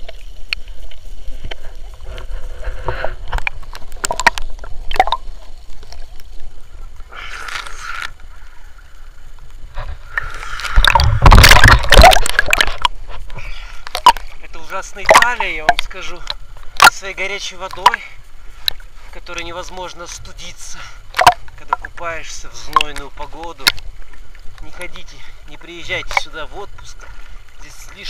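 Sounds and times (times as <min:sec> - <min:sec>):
water splashing around swimmers: 0:00.0 - 0:28.0.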